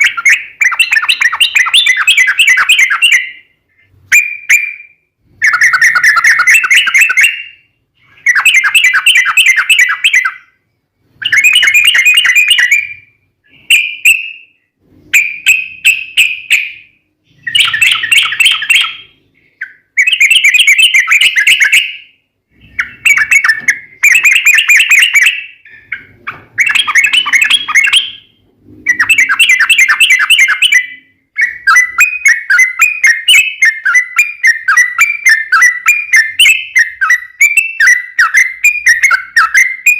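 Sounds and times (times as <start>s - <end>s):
bird singing rapid phrases: 0.0s - 39.9s.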